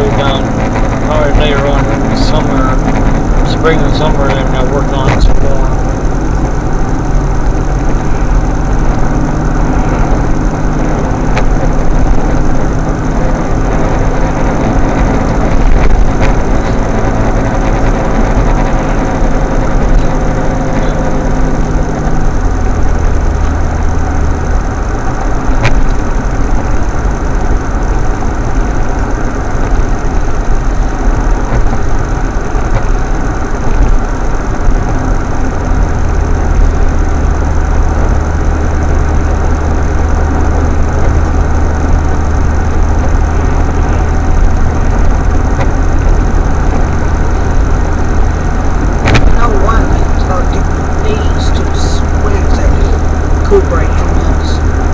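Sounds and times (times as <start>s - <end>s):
car engine: 0.0s - 54.9s
road noise: 0.0s - 54.9s.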